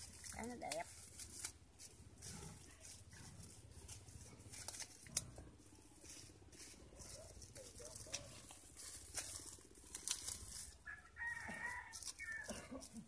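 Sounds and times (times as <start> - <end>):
plastic bags and leaves rustling: 0.0 - 13.0.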